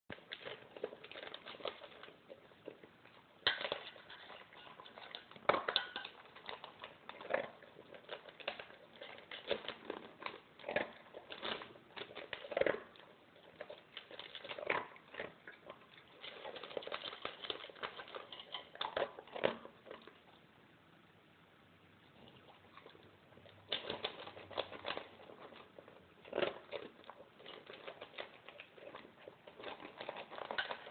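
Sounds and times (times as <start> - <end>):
kibble clicking on metal bowl: 0.1 - 20.3, 22.2 - 30.9
dog crunching kibble: 0.1 - 20.4, 22.1 - 30.9.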